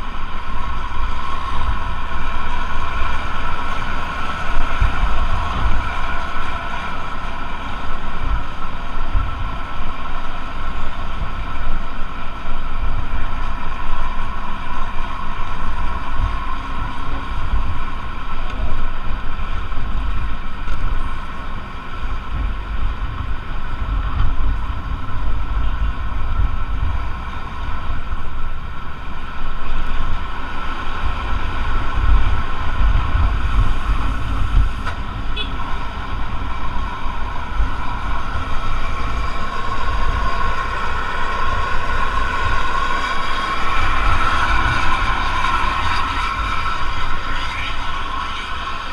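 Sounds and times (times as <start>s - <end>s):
bus engine whine and rumble: 0.0s - 48.9s
wind buffeting microphone: 0.0s - 48.9s.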